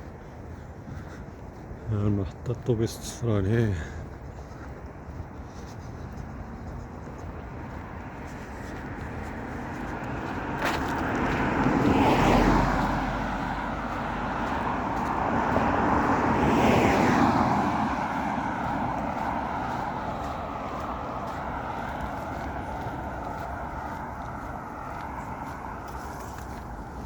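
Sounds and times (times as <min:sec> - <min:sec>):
traffic hum: 0:00.0 - 0:27.0
vehicles passing by: 0:00.0 - 0:27.0.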